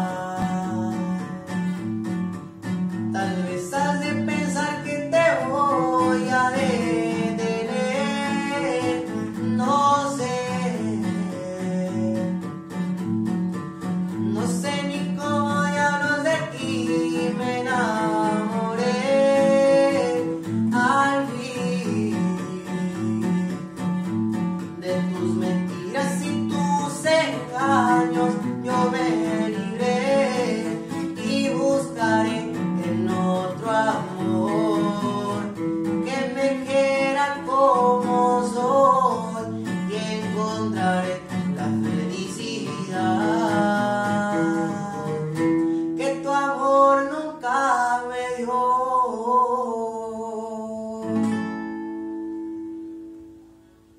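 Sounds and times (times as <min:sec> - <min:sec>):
man singing a slow ballad: 0:00.0 - 0:01.9, 0:03.0 - 0:12.9, 0:14.0 - 0:51.8
strummed acoustic guitar: 0:00.0 - 0:53.9.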